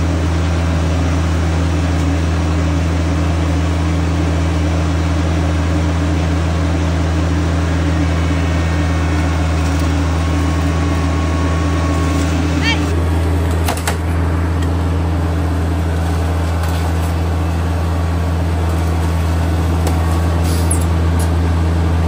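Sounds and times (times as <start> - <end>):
diesel tractor engine idling: 0.0 - 22.0.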